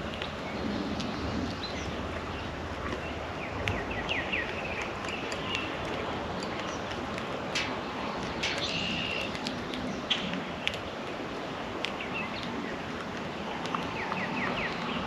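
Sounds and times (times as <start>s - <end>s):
birds chirping: 0.0s - 10.9s, 11.9s - 15.0s.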